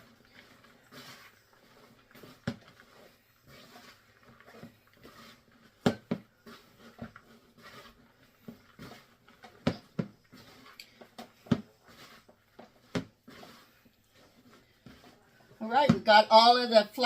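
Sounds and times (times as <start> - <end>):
dough being mixed by hand: 0.0 - 17.0.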